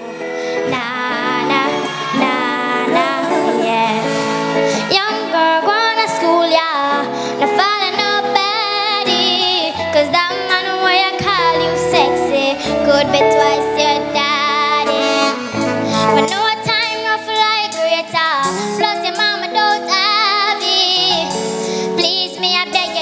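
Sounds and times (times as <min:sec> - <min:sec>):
live band music: 0:00.0 - 0:06.7, 0:07.4 - 0:23.0
woman singing wordless vocals: 0:00.0 - 0:23.0.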